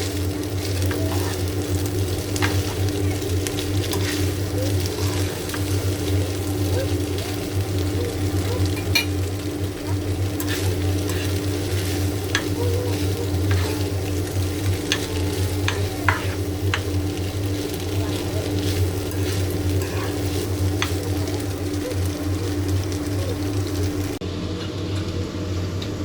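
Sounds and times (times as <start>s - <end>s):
spatula scraping a pan: 0.0s - 22.1s
food sizzling in a pan: 0.0s - 24.2s.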